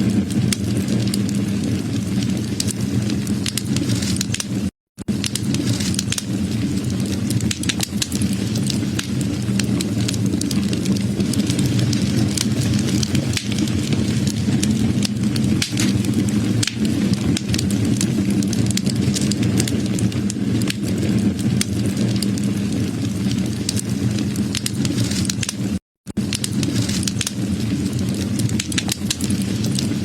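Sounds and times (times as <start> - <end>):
fire low rumble: 0.0 - 30.0
wood fire crackling and popping: 0.0 - 30.0.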